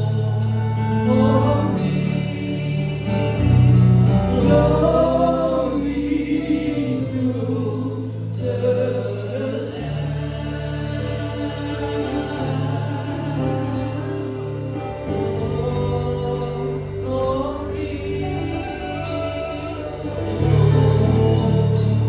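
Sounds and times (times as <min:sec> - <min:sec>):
group of voices singing: 0:00.0 - 0:22.0
low keyboard accompaniment: 0:00.0 - 0:22.0.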